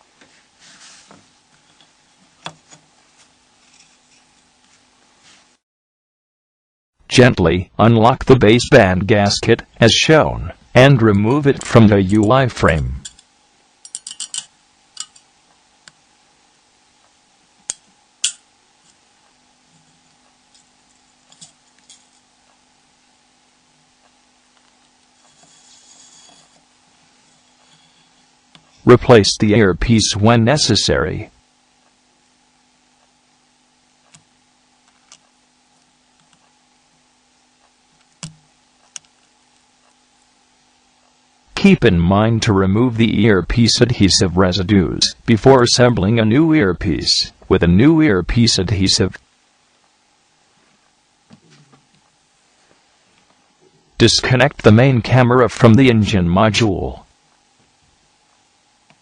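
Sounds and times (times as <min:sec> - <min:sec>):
faint steady hum: 0:00.0 - 0:05.6, 0:07.0 - 0:59.0.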